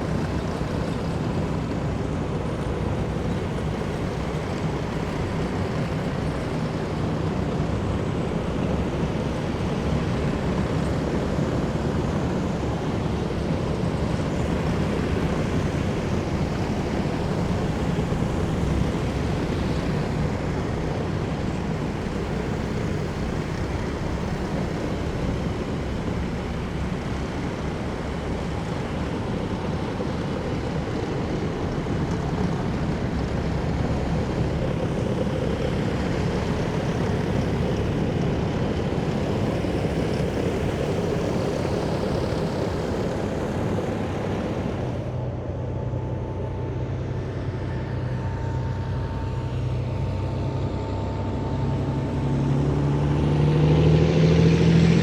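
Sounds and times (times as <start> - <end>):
heavy vehicles engines rumbling: 0.0 - 55.0.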